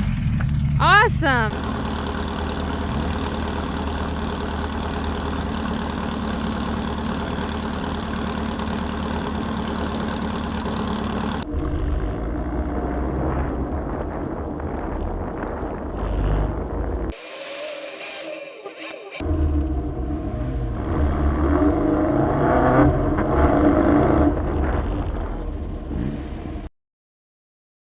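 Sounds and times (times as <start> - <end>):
car engine running: 0.0 - 17.2, 19.0 - 26.7.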